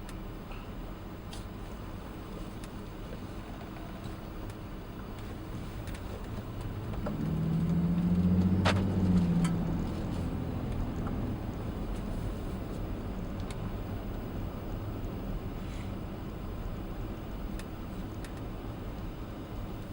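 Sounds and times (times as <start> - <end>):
engine under heavy throttle: 2.5 - 19.9.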